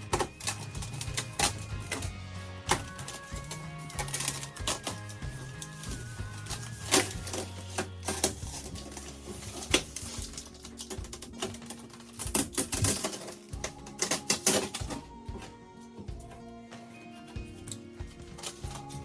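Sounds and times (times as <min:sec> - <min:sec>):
background music: 0:00.0 - 0:19.0
packing pieces clattering: 0:00.0 - 0:19.0.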